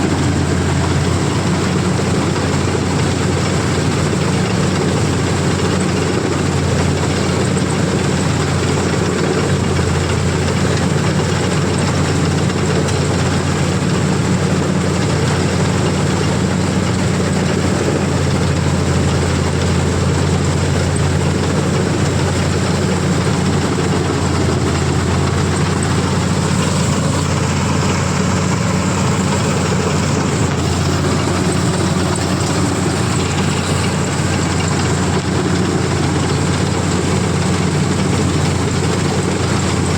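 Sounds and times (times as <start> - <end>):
combine harvester engine and machinery: 0.0 - 39.9.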